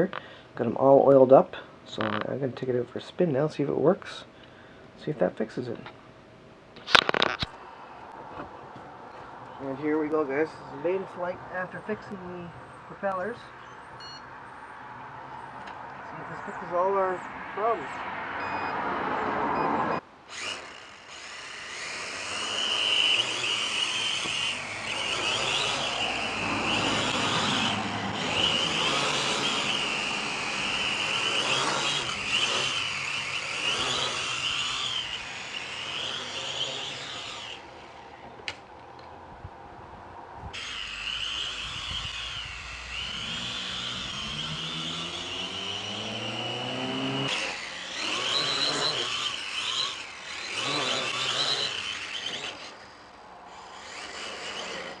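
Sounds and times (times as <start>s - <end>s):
quadcopter motors whining: 7.0s - 14.6s, 15.5s - 39.1s, 40.5s - 55.0s.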